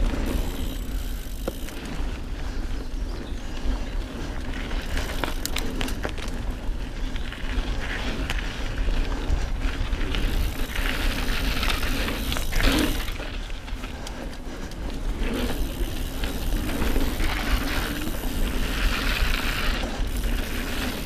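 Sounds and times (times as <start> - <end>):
bike rattling and clicking: 0.0 - 21.0
bike tyres on dirt: 0.0 - 21.0
wind rumbling on microphone: 0.0 - 21.0.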